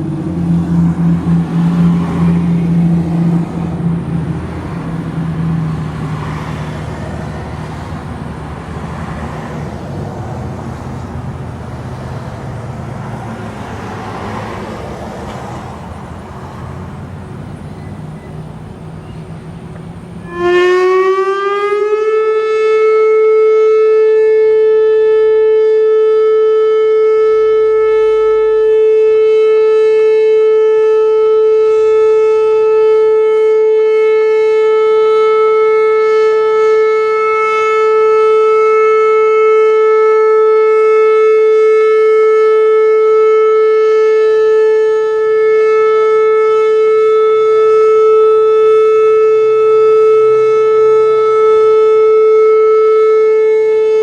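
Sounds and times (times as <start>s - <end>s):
outdoor warning siren: 0.0s - 54.0s.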